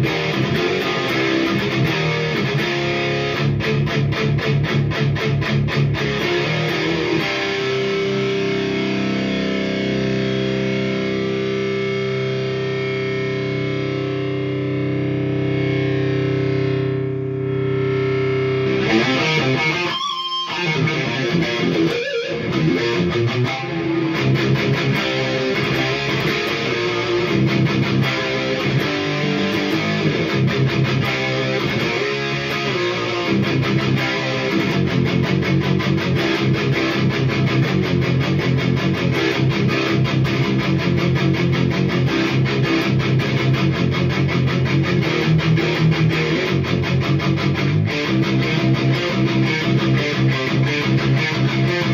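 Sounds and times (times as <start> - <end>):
distorted electric guitar riffing: 0.0 - 51.9
guitar chord ringing: 0.0 - 51.9.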